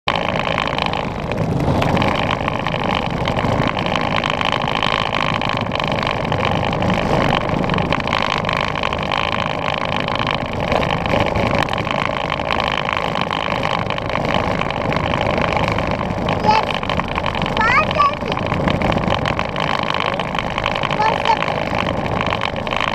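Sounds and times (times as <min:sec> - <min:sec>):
wheels rolling on asphalt: 0:00.0 - 0:22.9
toy truck motors whining: 0:00.2 - 0:22.9.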